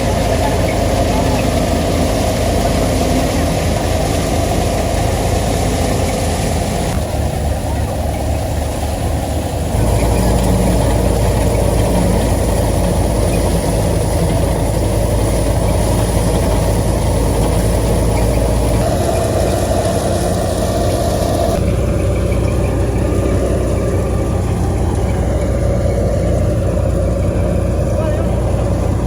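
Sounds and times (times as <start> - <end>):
threshing machine rumble: 0.0 - 29.0
tractor engine drone: 0.0 - 29.0.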